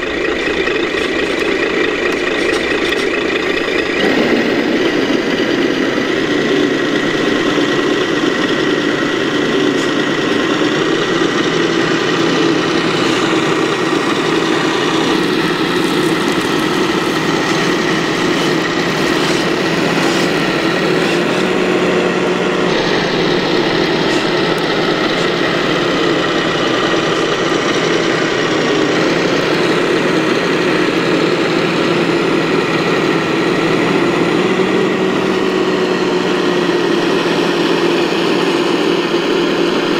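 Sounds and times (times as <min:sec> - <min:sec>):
simulated truck engine idling: 0:00.0 - 0:39.9.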